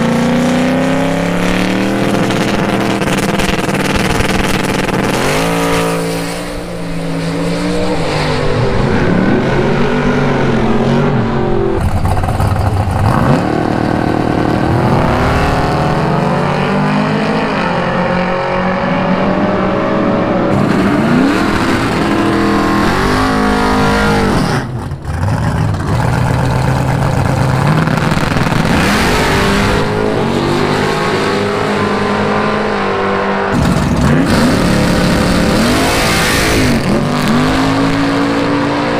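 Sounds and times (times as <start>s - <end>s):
car engines revving loudly: 0.0s - 38.9s.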